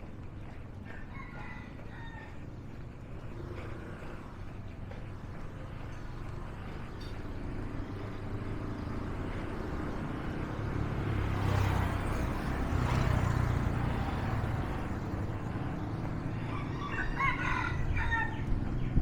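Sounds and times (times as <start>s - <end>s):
low traffic rumble: 0.0s - 19.0s
vehicle passing: 2.8s - 19.0s.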